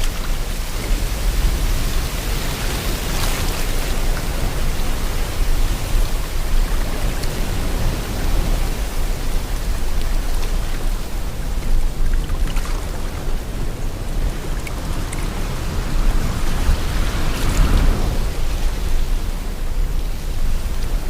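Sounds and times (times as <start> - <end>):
sea water rushing: 0.0 - 21.0
wind: 0.0 - 21.0.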